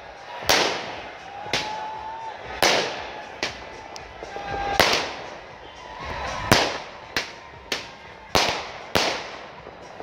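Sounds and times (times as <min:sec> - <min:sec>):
fireworks bangs: 0:00.4 - 0:01.9, 0:02.5 - 0:10.0.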